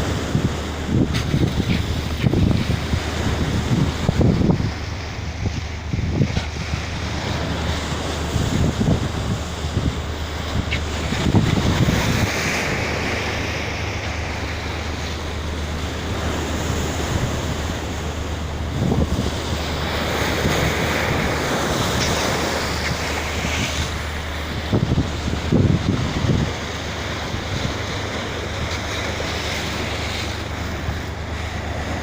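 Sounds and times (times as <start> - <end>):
sea water rushing: 0.0 - 32.0
steady low hum: 0.0 - 32.0
wind buffeting microphone: 0.0 - 32.0.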